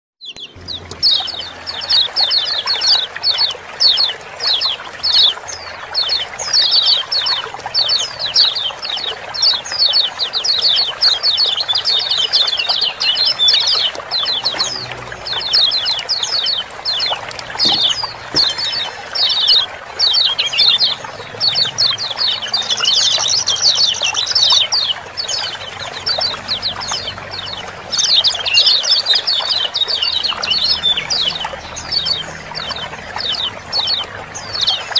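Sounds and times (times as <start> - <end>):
birds chirping rapidly: 0.2 - 34.9
running water: 0.3 - 34.9.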